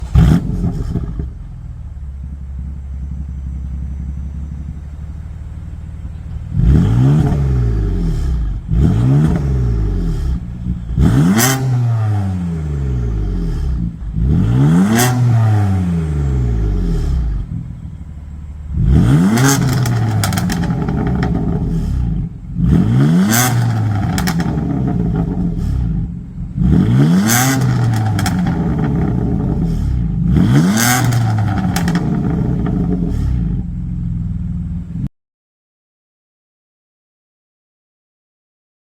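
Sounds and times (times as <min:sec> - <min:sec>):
exhaust cracks: 0:00.0 - 0:35.0
car engine idling and revving: 0:00.0 - 0:35.1.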